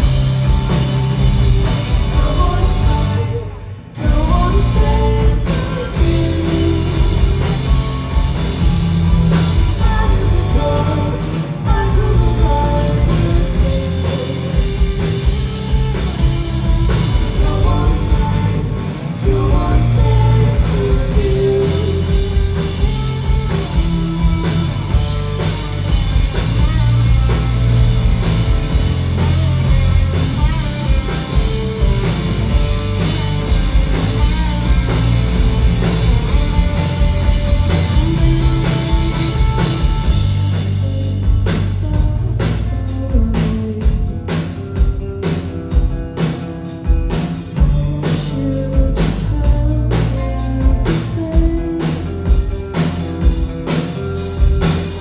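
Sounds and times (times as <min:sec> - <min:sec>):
rock band playing loud: 0:00.0 - 0:55.0.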